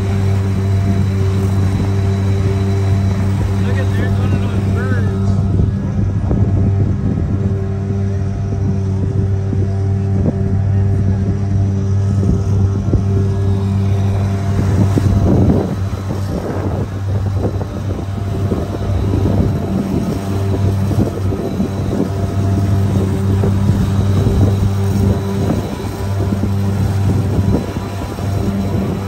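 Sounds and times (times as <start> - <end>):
outboard motor running: 0.0 - 29.0
wind noise on microphone: 0.0 - 29.0.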